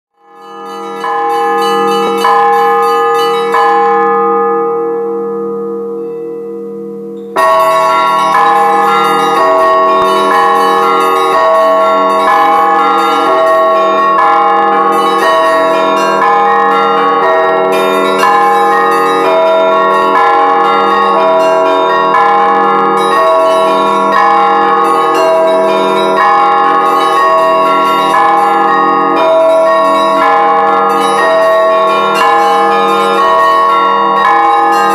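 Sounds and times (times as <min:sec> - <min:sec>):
church bells ringing: 0:00.2 - 0:34.9.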